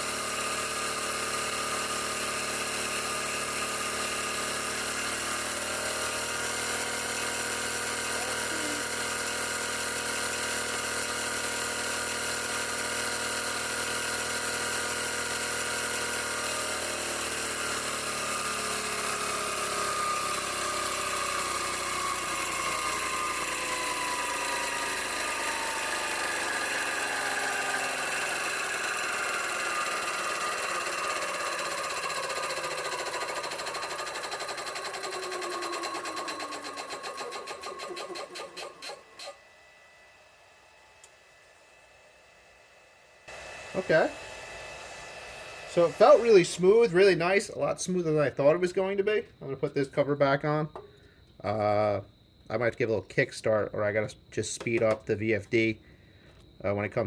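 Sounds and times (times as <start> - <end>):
high-pressure compressor running: 0.0 - 51.9
electric motor tones: 2.9 - 49.1.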